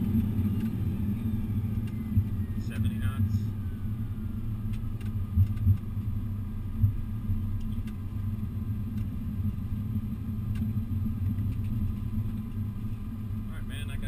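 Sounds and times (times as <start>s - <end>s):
cockpit low rumble: 0.0s - 14.0s.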